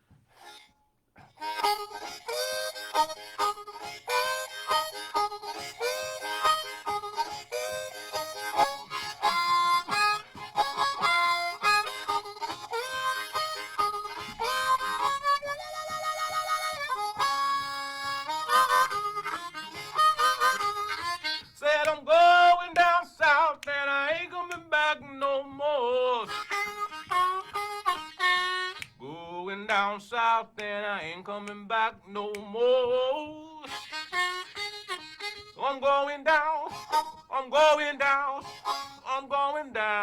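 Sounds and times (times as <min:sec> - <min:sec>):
blues harmonica playing: 0:00.3 - 0:23.9, 0:26.0 - 0:29.2, 0:33.3 - 0:40.0.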